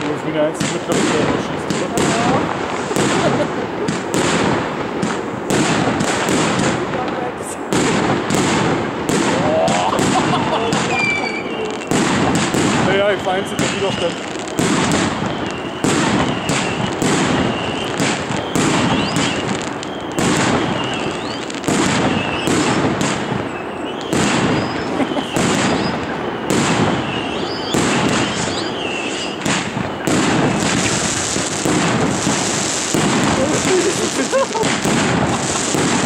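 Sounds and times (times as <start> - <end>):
firework shots: 0.0 - 36.0.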